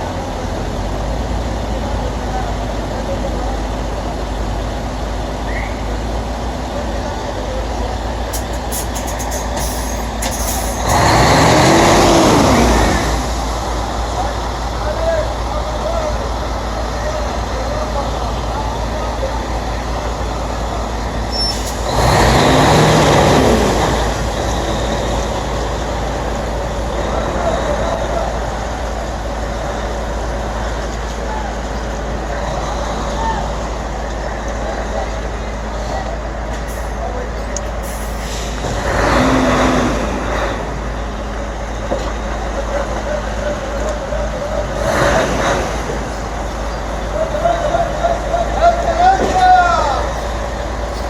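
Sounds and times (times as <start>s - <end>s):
truck diesel engine running: 0.0s - 51.0s.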